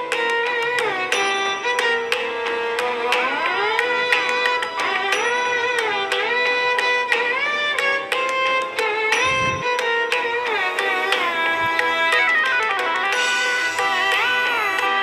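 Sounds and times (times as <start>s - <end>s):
ornamented instrumental melody: 0.0s - 15.0s.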